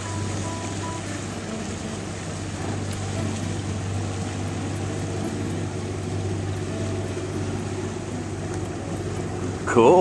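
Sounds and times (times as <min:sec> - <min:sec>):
boat engine drone: 0:00.0 - 0:10.0
water hiss: 0:00.0 - 0:10.0
wind: 0:00.0 - 0:10.0.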